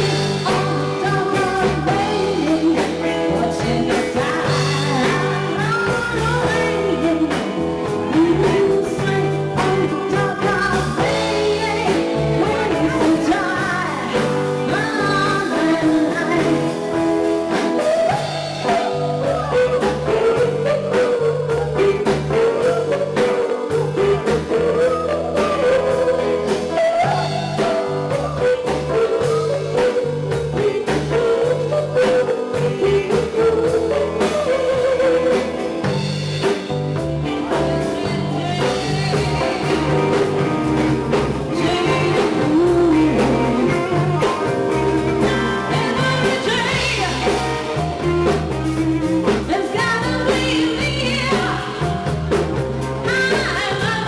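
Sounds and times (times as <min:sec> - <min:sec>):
drum kit: 0:00.0 - 0:54.0
electric bass: 0:00.0 - 0:54.0
electric guitar: 0:00.0 - 0:54.0
woman singing lead: 0:00.0 - 0:54.0.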